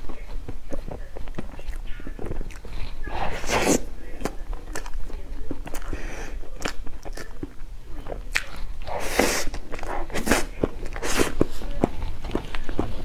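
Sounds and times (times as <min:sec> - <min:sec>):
person chewing with wet clicks: 0:00.0 - 0:13.0.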